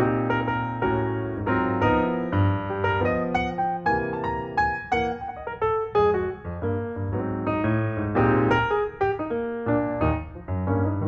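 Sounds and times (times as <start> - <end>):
piano background music: 0.0 - 11.0.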